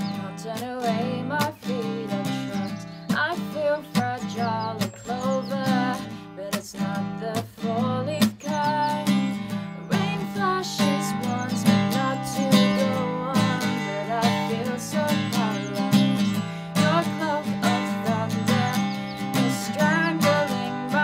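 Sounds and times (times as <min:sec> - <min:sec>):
acoustic guitar strumming: 0:00.0 - 0:21.0
woman singing: 0:00.0 - 0:21.0.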